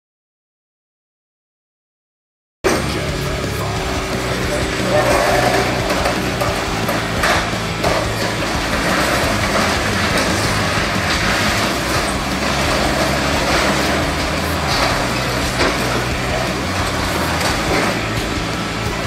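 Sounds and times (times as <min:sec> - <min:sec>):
building crunching and clattering: 0:02.7 - 0:19.0
excavator diesel engine droning: 0:02.7 - 0:19.0.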